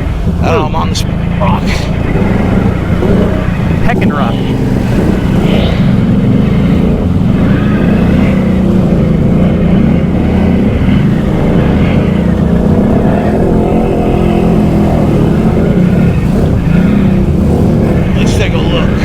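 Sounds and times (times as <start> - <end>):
atv engine running under load: 0.0 - 19.0.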